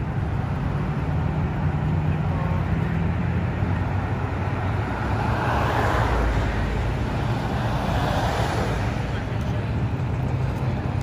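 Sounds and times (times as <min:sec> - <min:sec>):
low engine rumble: 0:00.0 - 0:11.0
vehicle passing: 0:00.7 - 0:11.0.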